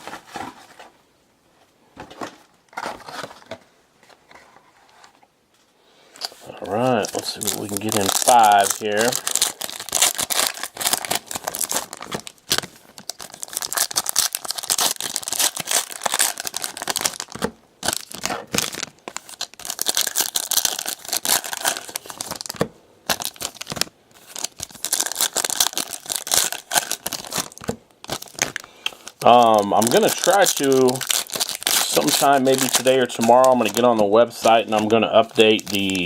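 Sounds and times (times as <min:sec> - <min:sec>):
plastic wrapping crinkling and tearing: 0:06.2 - 0:36.0.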